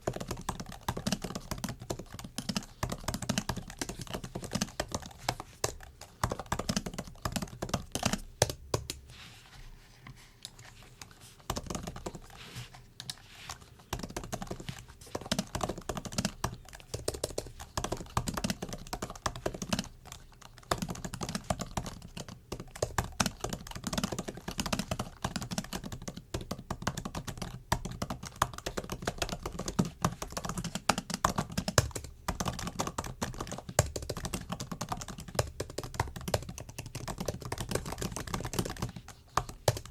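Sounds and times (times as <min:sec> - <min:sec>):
laptop keyboard typing: 0:00.0 - 0:09.0, 0:10.5 - 0:39.9.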